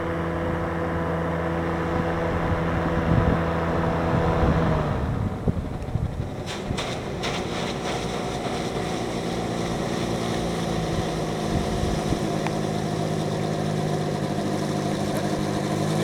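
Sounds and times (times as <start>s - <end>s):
engine and propeller drone: 0.0s - 16.0s.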